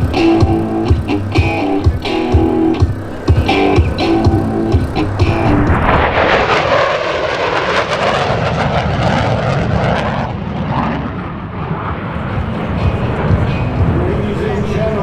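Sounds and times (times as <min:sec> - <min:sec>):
jet engines flyby: 0:00.0 - 0:15.0.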